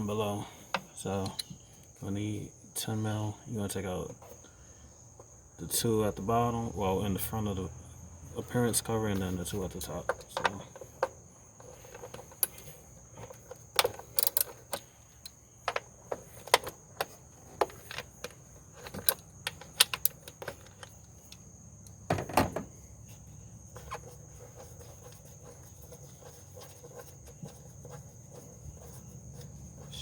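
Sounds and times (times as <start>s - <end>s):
high insect trill: 0.0s - 30.0s.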